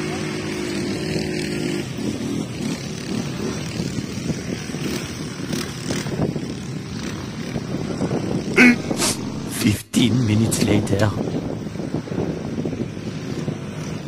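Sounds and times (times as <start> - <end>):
quad bike engines running: 0.0 - 14.0.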